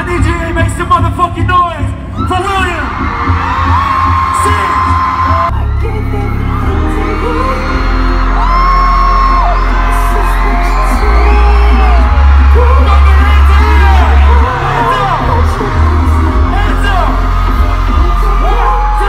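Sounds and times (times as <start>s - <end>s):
live concert music with heavy bass: 0.0s - 19.0s
crowd screaming and whooping: 1.9s - 19.0s.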